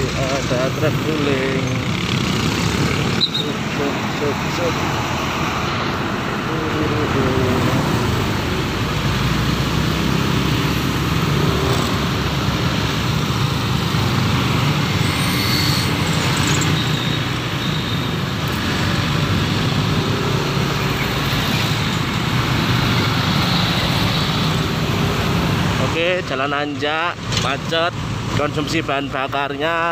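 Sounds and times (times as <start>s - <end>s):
traffic noise: 0.0s - 29.9s.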